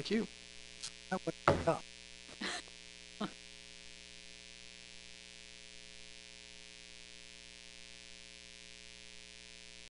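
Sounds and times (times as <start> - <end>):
electrical mains hum with hiss: 0.0 - 9.9.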